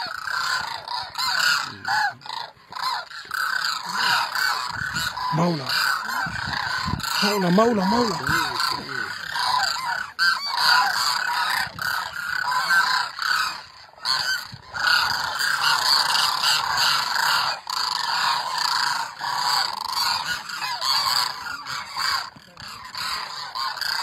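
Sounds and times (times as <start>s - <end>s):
flock of cranes calling: 0.0s - 24.0s.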